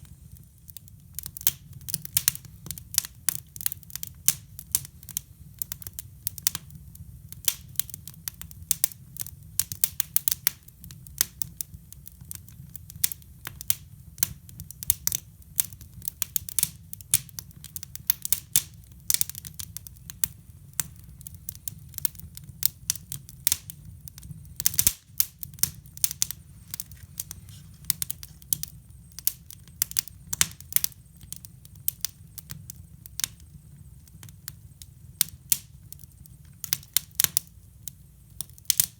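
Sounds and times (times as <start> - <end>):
low rumble of fire: 0.0 - 38.9
wood fire crackling: 0.0 - 38.9.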